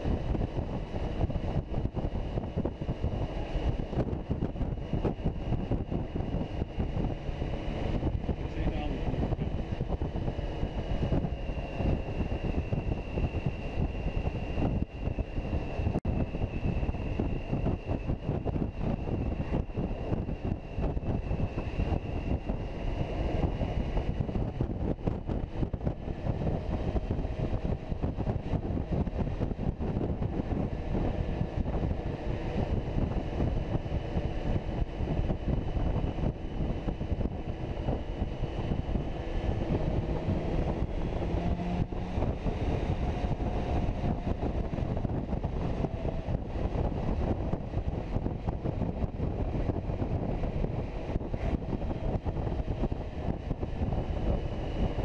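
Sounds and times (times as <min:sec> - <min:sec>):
faint motorcycle engine hum: 0:00.0 - 0:55.0
wind rushing over microphone: 0:00.0 - 0:55.0.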